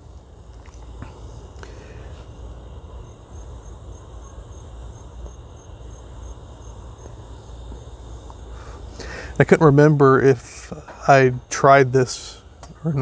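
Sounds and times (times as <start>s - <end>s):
cricket chirping: 0.0s - 13.0s
low steady rumble: 0.0s - 13.0s.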